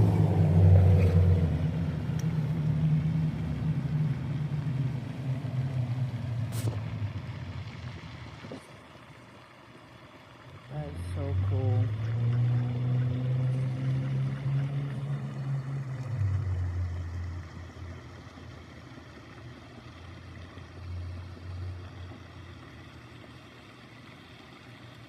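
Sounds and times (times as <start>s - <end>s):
passing vehicle engine hum: 0.0s - 8.8s, 10.6s - 24.3s.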